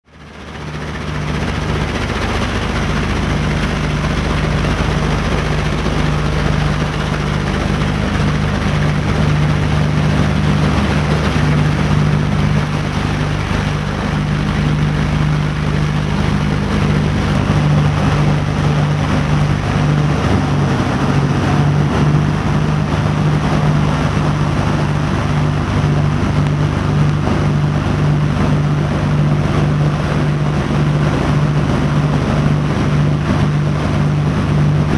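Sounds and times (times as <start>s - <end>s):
piston aircraft engines droning: 0.1s - 34.9s
steady low hum: 0.1s - 34.9s.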